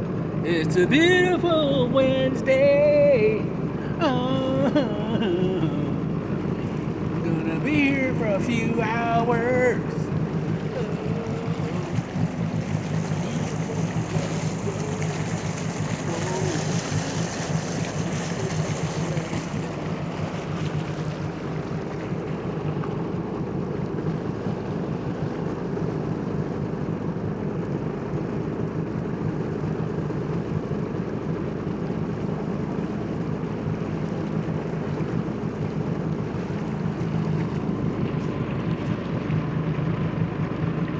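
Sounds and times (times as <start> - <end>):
jet ski engine idling: 0.0 - 40.9.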